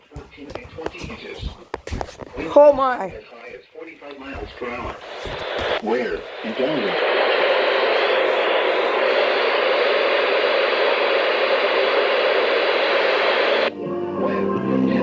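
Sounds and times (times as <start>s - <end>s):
radio static hiss: 0.0s - 13.7s.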